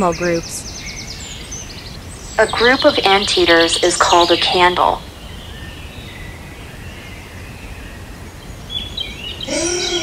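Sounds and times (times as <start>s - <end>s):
bird chirps: 0.0s - 10.0s
steady background hiss: 0.0s - 10.0s.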